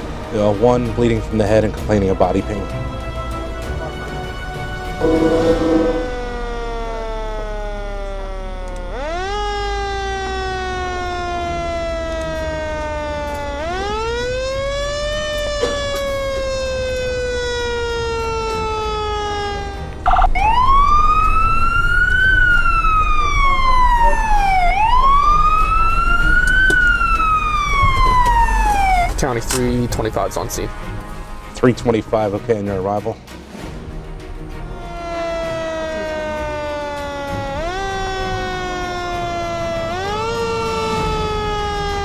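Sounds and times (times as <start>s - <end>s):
emergency vehicle siren: 2.8s - 31.6s, 34.5s - 42.0s.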